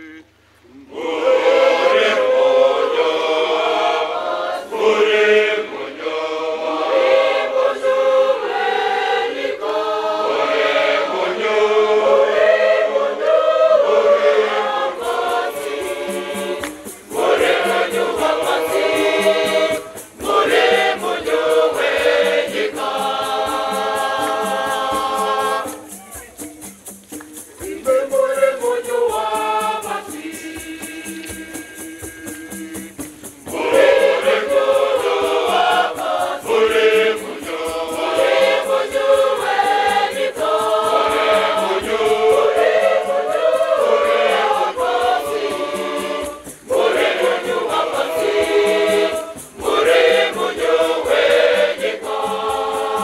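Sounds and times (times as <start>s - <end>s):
choir singing a hymn: 0.0s - 26.0s, 27.4s - 53.0s
shaker rattle beat: 0.0s - 53.0s.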